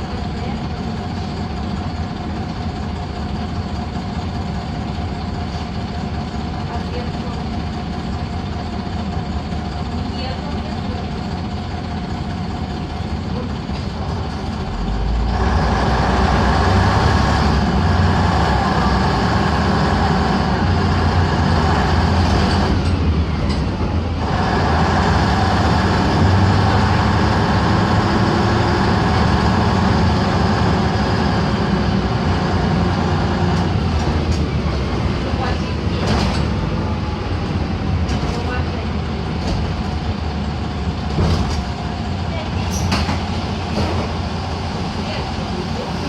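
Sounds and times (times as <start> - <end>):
bus diesel engine: 0.0 - 46.0
road noise: 0.0 - 46.0.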